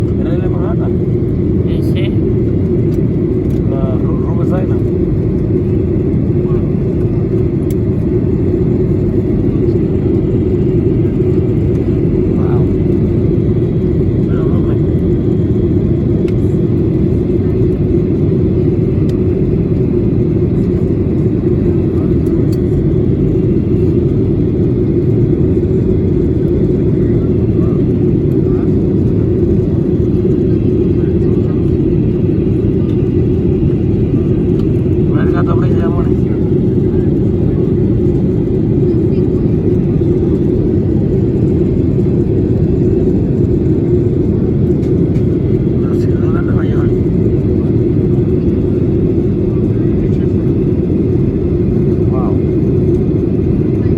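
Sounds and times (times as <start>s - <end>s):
airliner cabin roar: 0.0s - 53.9s.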